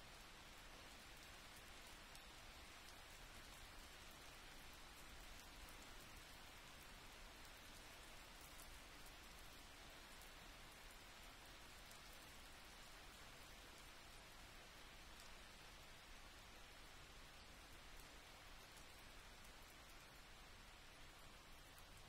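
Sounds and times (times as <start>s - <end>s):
faint steady hiss: 0.0s - 22.0s.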